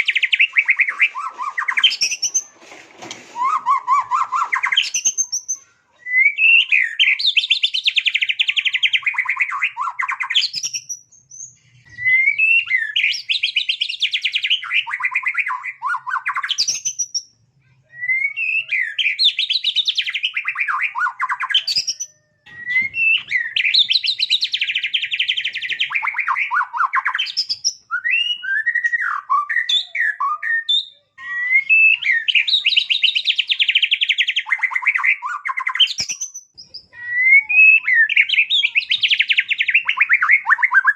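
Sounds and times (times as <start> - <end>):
songbird singing trilled phrases: 6.2 - 17.3, 18.1 - 40.9.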